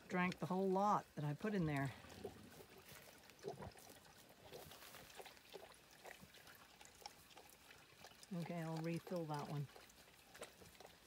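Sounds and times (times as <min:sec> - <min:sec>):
sheep slurping water: 0:00.0 - 0:11.0.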